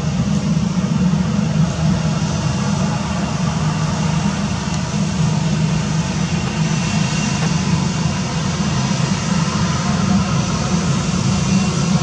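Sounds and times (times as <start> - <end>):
jet engines running at low power: 0.0 - 12.0.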